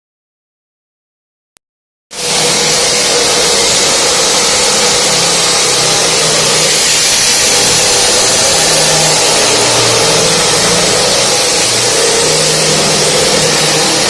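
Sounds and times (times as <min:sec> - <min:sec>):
concrete saw grinding: 0:02.2 - 0:14.0
motor hum: 0:02.2 - 0:14.0.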